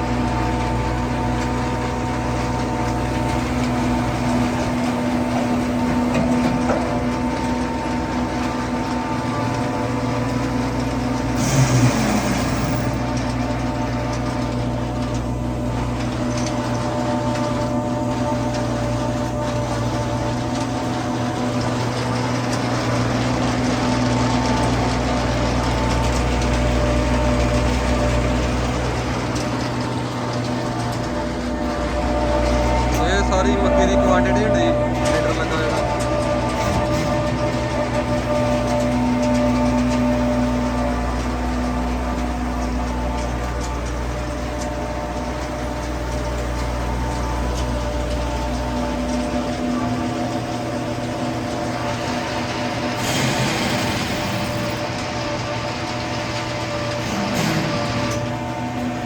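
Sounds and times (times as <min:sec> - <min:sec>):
constant machine whine: 0:00.0 - 0:59.0
farm machinery engine hum: 0:00.0 - 0:59.0.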